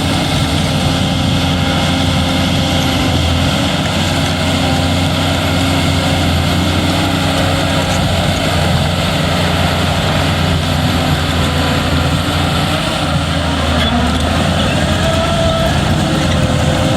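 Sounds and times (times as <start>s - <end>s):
bulldozer diesel engine running: 0.0s - 16.9s.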